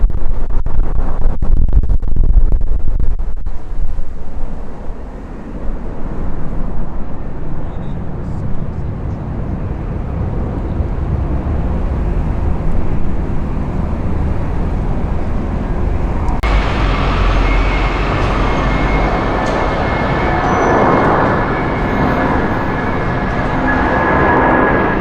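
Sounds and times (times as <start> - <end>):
jet engines rumbling: 2.9 - 25.0
high-pitched jet engine whine: 3.8 - 25.0.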